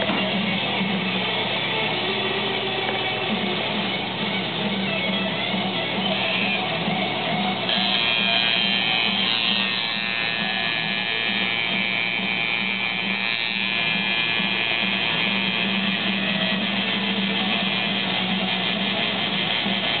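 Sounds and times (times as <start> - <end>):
tattoo machine buzzing: 0.0 - 20.0.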